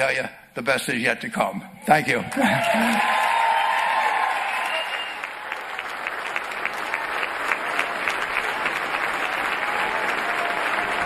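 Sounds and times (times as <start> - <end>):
large audience applauding: 2.1 - 11.0.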